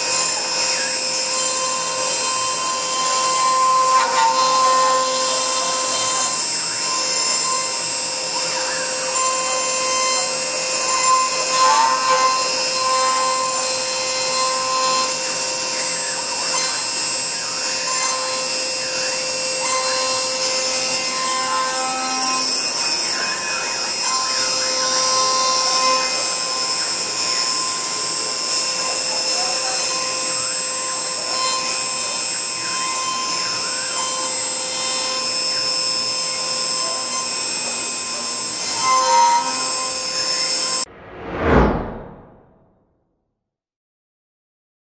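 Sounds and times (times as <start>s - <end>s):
cnc router spindle whine: 0.0s - 40.9s
router bit cutting: 0.0s - 40.9s.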